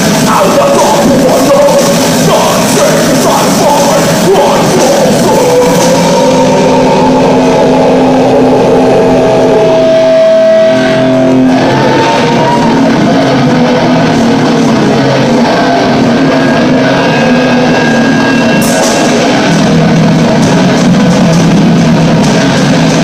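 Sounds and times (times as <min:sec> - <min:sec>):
bass guitar: 0:00.0 - 0:23.0
distorted electric guitars: 0:00.0 - 0:23.0
drums and cymbals: 0:00.0 - 0:23.0.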